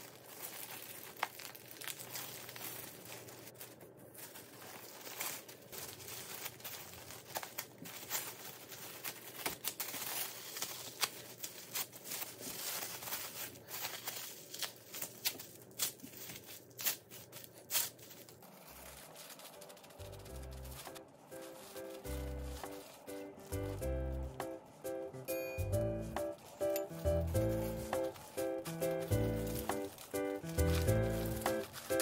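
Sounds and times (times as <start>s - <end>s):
plastic wrap crinkling: 0.0s - 32.0s.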